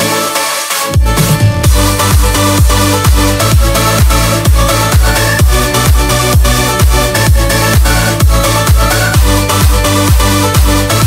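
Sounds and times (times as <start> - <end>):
electronic dance music: 0.0 - 11.0
kick drum beat: 0.9 - 11.0
sustained synth chords: 1.0 - 11.0.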